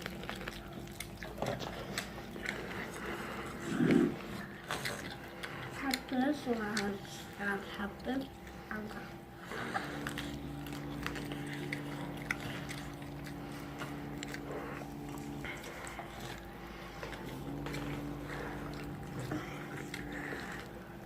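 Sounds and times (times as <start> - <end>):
chewing crispy fried food: 0.0 - 21.0
steady low hum: 0.0 - 21.0.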